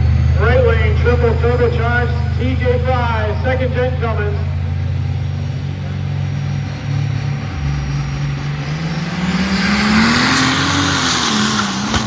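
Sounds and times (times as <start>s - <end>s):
diesel truck engine at full throttle: 0.0s - 12.0s.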